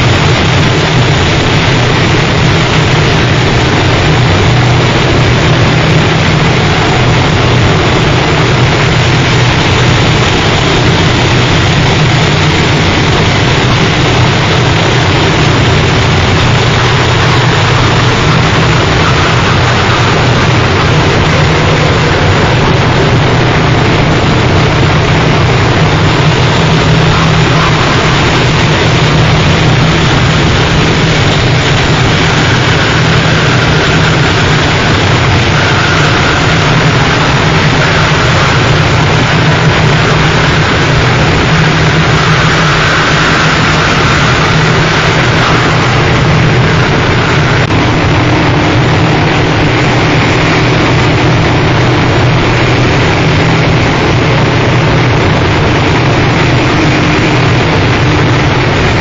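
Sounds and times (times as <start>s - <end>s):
distorted noise music: 0.0s - 59.0s
low rumble: 0.0s - 59.0s.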